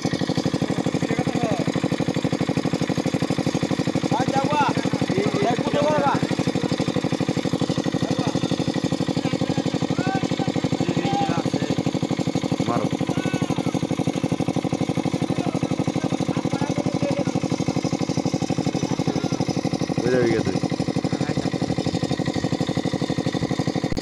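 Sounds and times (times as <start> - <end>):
water pump engine chugging: 0.0 - 24.0.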